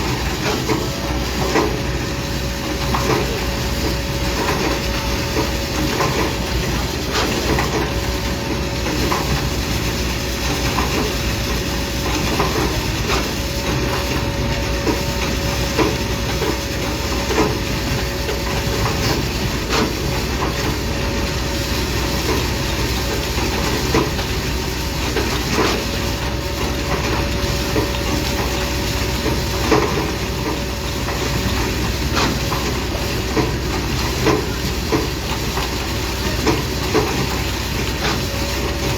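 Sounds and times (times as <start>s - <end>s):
heavy machinery humming: 0.0s - 38.9s.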